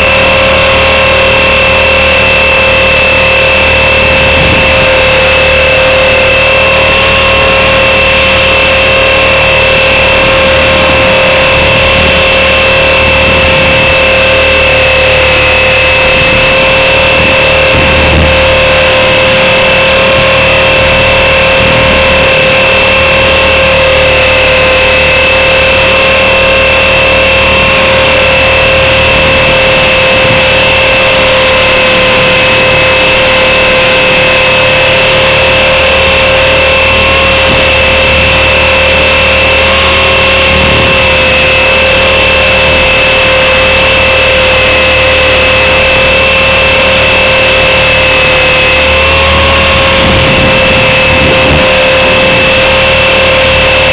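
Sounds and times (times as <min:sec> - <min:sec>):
helicopter motor high whine: 0:00.0 - 0:53.9
rotor hissing rush: 0:00.0 - 0:53.9.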